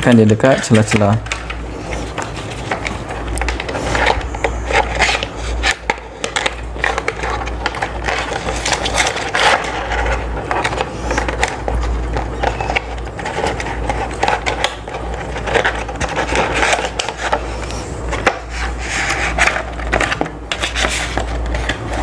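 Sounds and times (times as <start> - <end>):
plastic scraping and clicking: 0.0 - 22.0
plastic sheet crinkling: 0.0 - 22.0.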